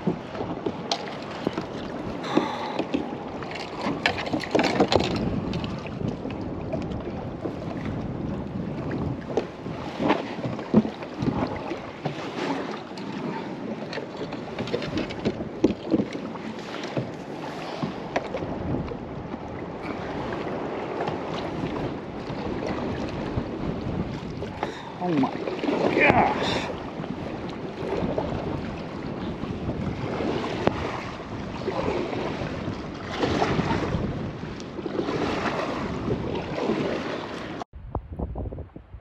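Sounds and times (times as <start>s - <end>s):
paddle dipping in water: 0.0s - 37.7s
water splashing against kayak: 0.0s - 37.7s
wind buffeting microphone: 0.0s - 39.0s.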